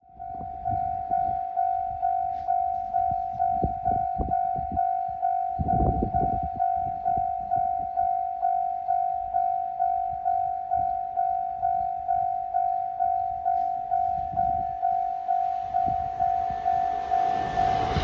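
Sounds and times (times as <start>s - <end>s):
railroad crossing bell ringing: 0.0s - 18.0s.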